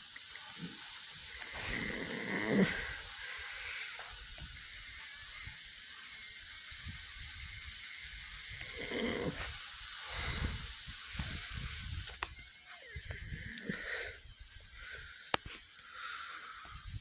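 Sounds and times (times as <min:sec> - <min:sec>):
cockpit air noise hiss: 0:00.0 - 0:17.0.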